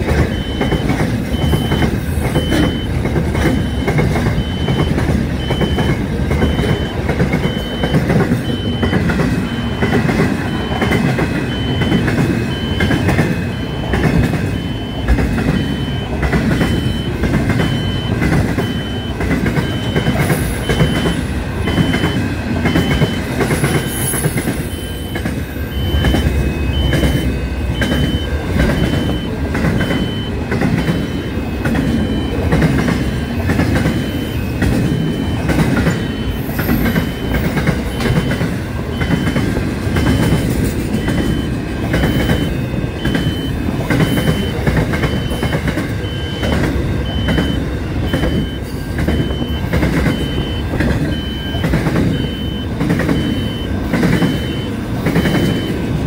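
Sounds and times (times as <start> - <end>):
high electronic beeps: 0.0 - 56.0
rail joint clicks: 0.0 - 56.0
train wheels rumbling on rails: 0.0 - 56.0.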